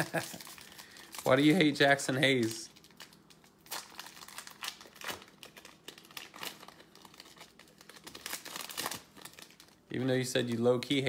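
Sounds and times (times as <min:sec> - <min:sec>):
wrapper crinkling and rustling: 0:00.0 - 0:11.0.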